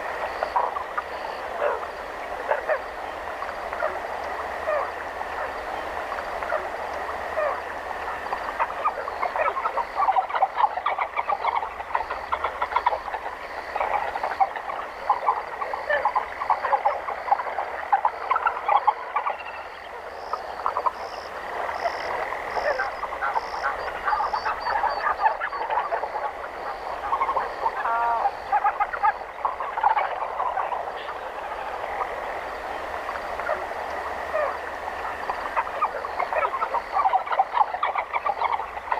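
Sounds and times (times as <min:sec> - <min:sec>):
chorus of frogs croaking: 0:00.0 - 0:38.9.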